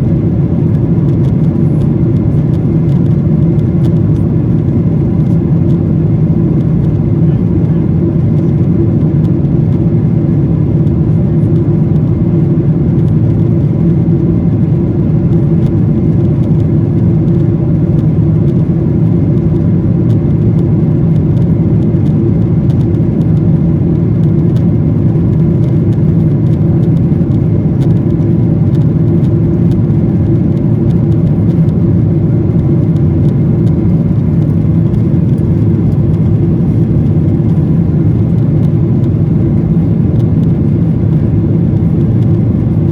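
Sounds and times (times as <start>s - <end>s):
airliner cabin drone: 0.0s - 42.9s.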